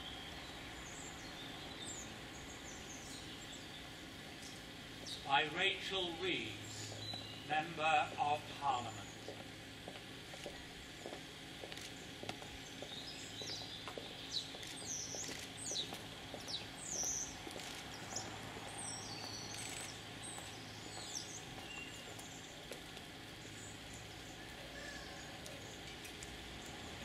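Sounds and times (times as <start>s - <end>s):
birds chirping: 0.0s - 26.7s
low background hum: 0.0s - 27.0s.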